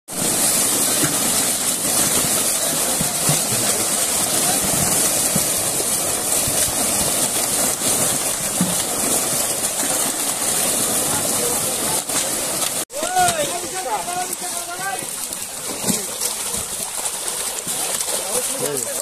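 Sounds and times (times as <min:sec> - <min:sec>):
fish thrashing and splashing in water: 0:00.1 - 0:19.0.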